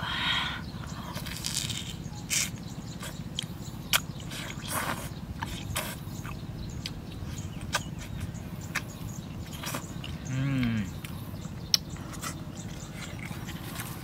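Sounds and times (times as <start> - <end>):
mouth clicks: 1.8 - 13.5.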